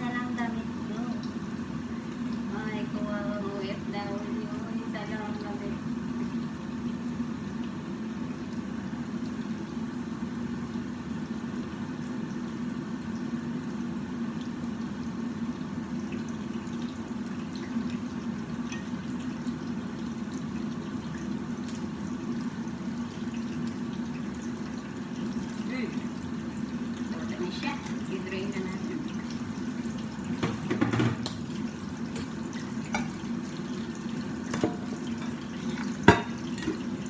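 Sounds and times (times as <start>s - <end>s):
liquid bubbling in a pan: 0.0s - 37.0s.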